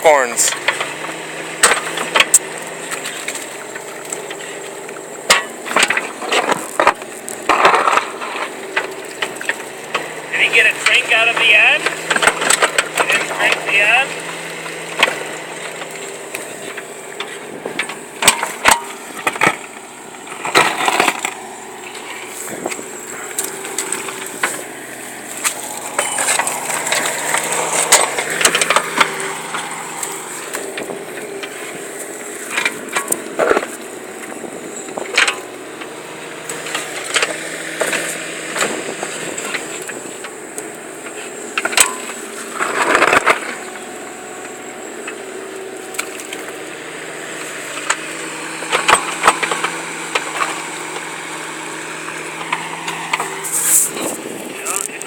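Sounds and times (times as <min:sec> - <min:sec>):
steady low hum: 0:00.0 - 0:55.0
crunching knocks and scrapes: 0:00.1 - 0:40.3, 0:41.1 - 0:43.7, 0:52.0 - 0:55.0.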